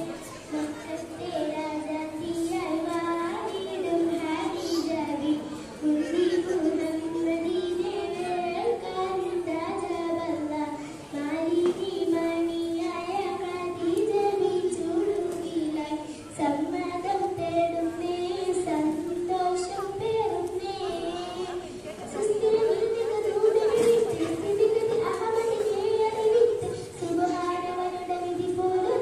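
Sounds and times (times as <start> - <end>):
girl singing folk song: 0.0 - 29.0.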